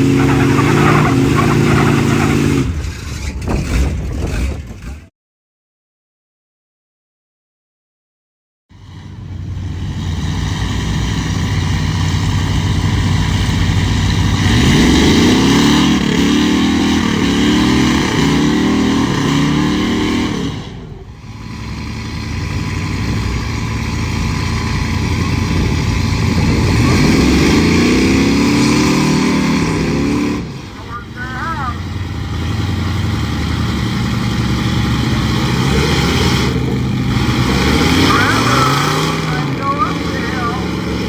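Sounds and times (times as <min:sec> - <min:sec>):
truck engine under load: 0:00.0 - 0:05.1, 0:08.9 - 0:41.0.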